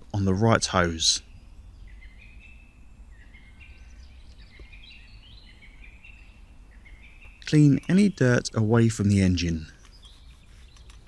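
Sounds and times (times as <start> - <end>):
faint whistled bird song: 0.8 - 11.0.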